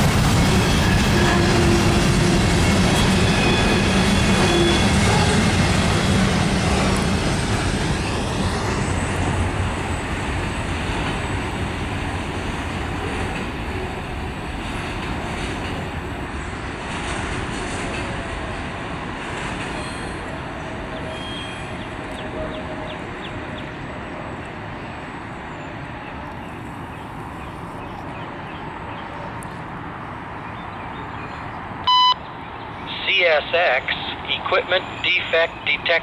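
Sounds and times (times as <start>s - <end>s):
freight train rolling on rails: 0.0s - 36.0s.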